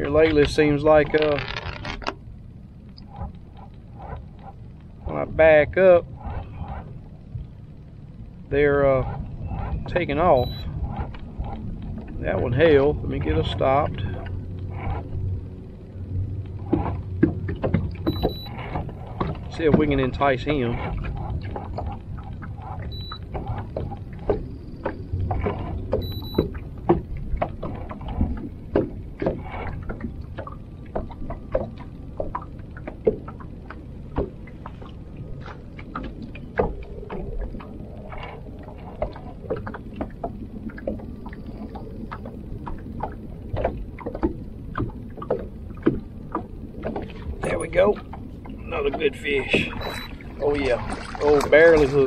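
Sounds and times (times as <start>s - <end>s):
steady low rumble: 0.0s - 52.0s
waves slapping against hull: 0.0s - 52.0s.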